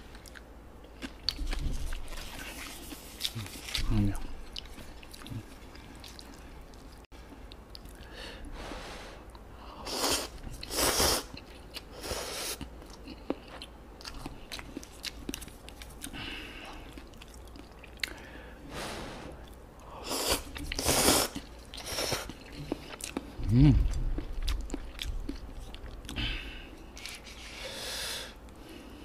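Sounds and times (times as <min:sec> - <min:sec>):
person chewing noodles: 0:00.1 - 0:08.2, 0:09.3 - 0:18.8, 0:19.4 - 0:29.0.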